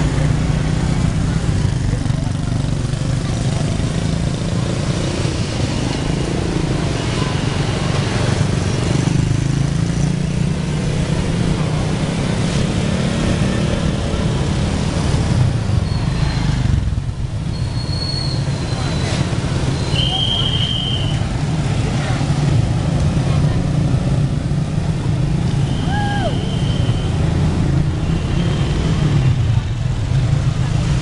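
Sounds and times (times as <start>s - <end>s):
motorcycle engines rumbling: 0.0s - 31.0s.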